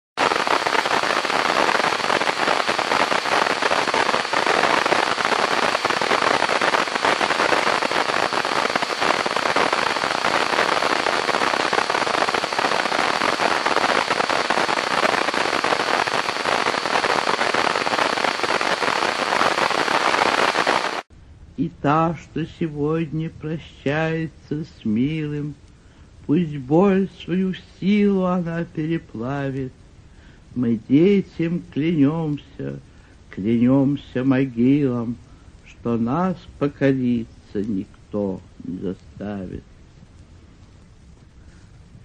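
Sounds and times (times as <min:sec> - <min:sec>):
crackling and popping: 0:00.2 - 0:21.1, 0:23.6 - 0:42.0.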